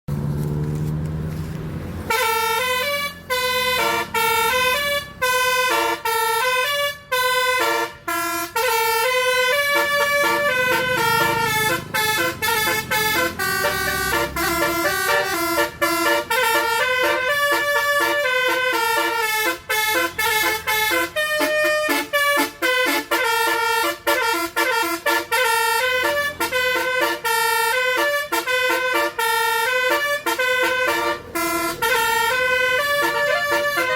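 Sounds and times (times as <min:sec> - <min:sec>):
multi-tone air horn melody: 0:02.1 - 0:33.9.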